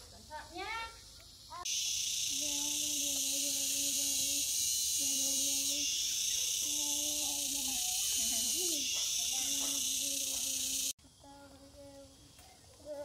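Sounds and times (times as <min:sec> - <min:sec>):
insect chorus shrilling: 0:00.5 - 0:12.6.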